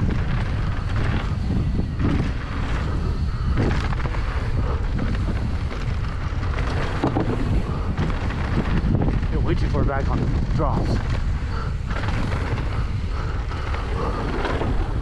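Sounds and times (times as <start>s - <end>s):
bike knocks and rattles: 0.0s - 15.0s
wind buffeting microphone: 0.0s - 15.0s.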